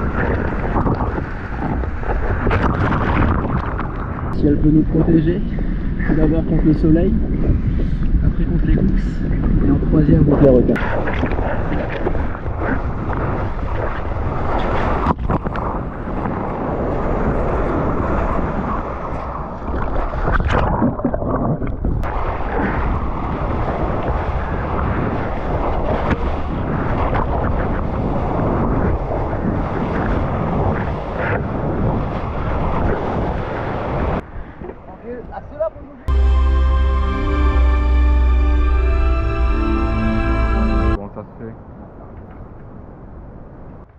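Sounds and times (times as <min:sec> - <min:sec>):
waves breaking: 0:00.0 - 0:04.4, 0:07.3 - 0:41.0
wind on microphone: 0:00.0 - 0:36.2.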